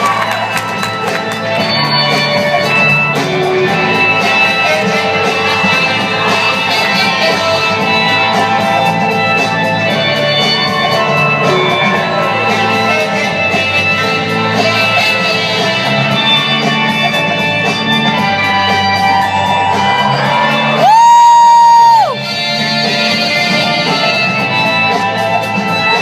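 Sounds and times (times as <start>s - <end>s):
loud music with guitar: 0.0s - 26.0s.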